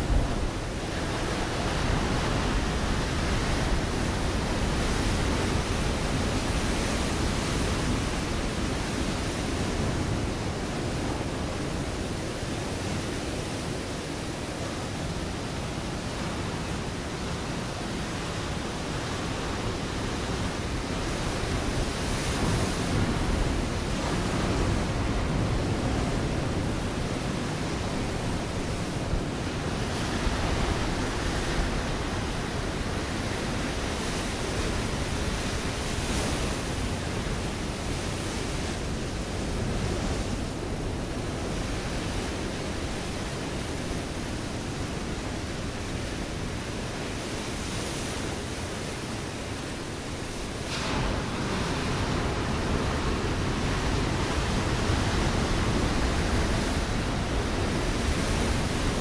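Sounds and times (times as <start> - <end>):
ocean waves breaking on rocks: 0.0 - 59.0.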